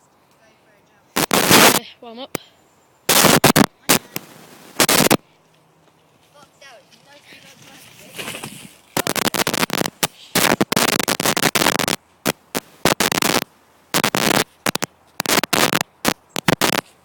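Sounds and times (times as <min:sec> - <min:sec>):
crackling static noise: 0:00.0 - 0:17.0.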